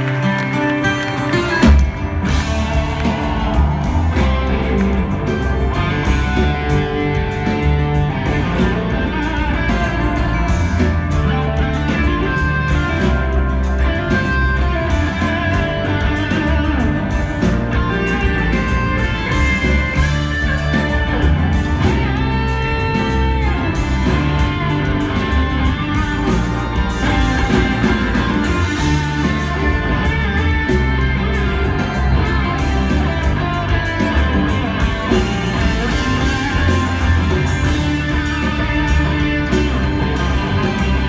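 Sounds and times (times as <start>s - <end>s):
bass guitar: 0.0s - 41.0s
electric guitars: 0.0s - 41.0s
steady drum beat: 1.5s - 41.0s.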